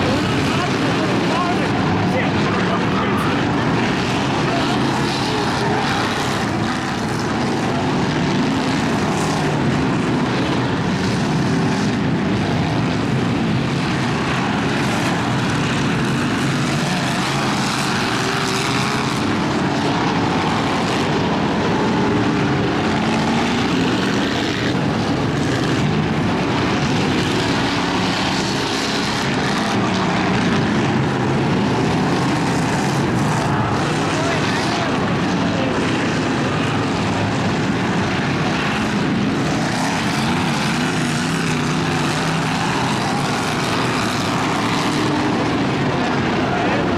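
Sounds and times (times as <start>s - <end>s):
racing truck engines revving: 0.0s - 46.9s.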